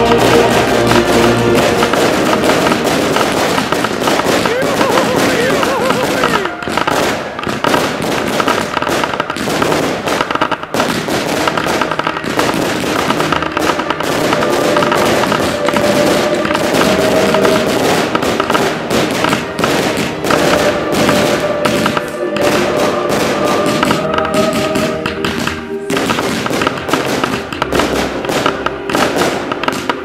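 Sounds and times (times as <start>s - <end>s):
fireworks bangs and crackling: 0.0s - 30.0s
steady tones: 0.0s - 30.0s.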